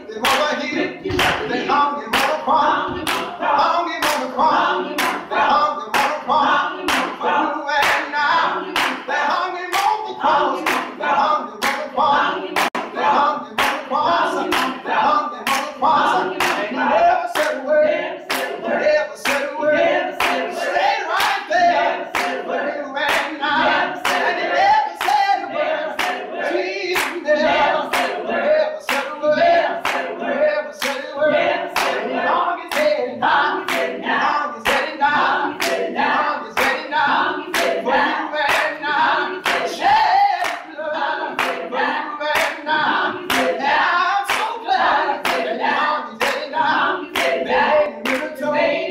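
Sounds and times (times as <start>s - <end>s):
gospel choir singing: 0.0s - 48.9s
hand-clapping on the beat: 0.0s - 48.9s.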